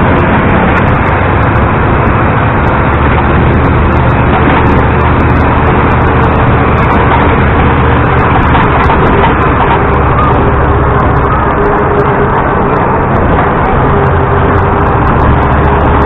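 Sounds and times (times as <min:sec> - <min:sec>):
bus engine running: 0:00.0 - 0:16.0
road noise: 0:00.0 - 0:16.0.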